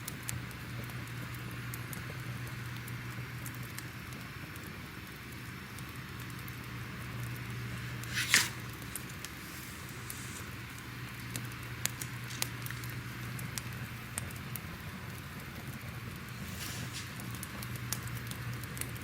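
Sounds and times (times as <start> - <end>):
crackling fire: 0.0 - 19.0
fire snapping: 2.8 - 19.0.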